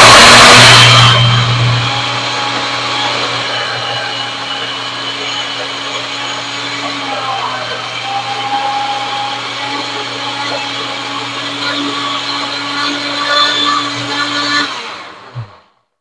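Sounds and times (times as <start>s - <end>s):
blender motor churning: 0.0s - 15.8s.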